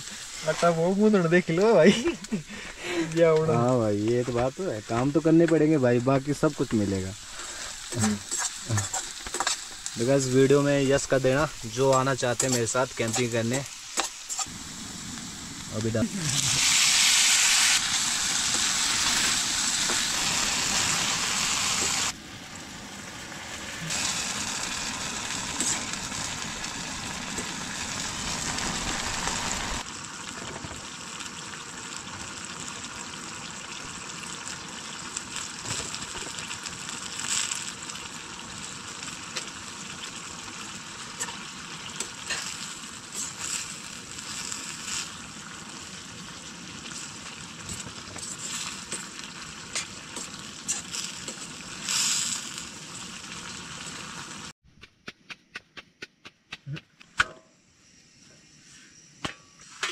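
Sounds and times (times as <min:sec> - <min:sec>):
vegetables sizzling in oil: 0:00.0 - 0:54.5.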